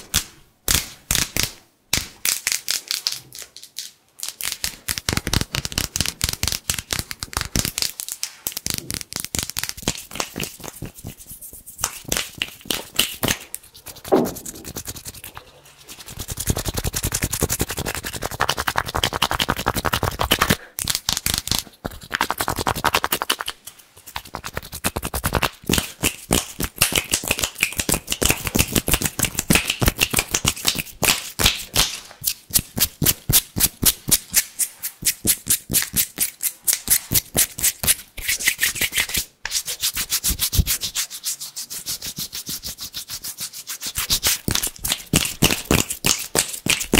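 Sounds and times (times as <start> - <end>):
hands rubbing together: 2.3 - 46.9.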